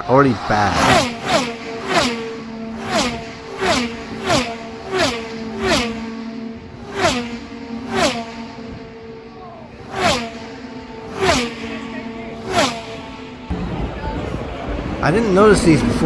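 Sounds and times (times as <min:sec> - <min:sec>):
race car engines passing: 0:00.0 - 0:16.0.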